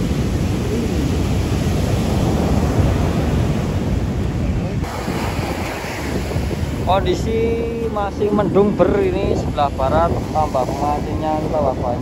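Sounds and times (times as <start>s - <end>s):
surf breaking on beach: 0.0s - 12.0s
wind rumbling on microphone: 0.0s - 12.0s.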